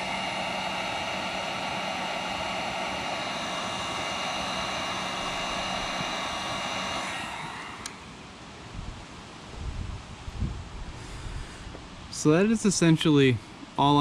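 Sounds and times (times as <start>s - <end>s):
heat gun fan blowing: 0.0s - 14.0s.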